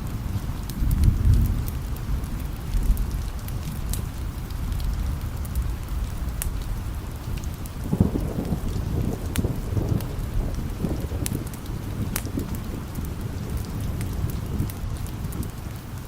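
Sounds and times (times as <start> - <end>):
distant thunder rumble: 0.0 - 16.0
steady rain: 0.0 - 16.0.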